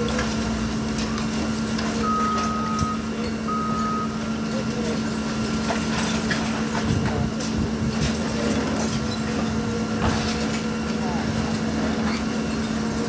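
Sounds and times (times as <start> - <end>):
heavy machine engine humming: 0.0 - 13.0.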